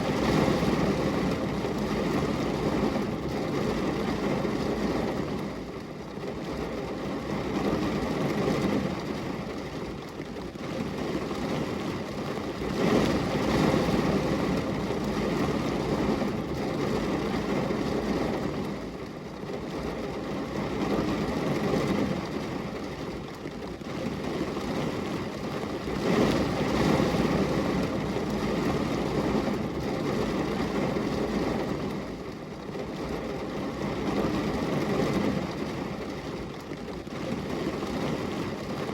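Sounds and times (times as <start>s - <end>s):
rain on window glass: 0.0s - 38.9s.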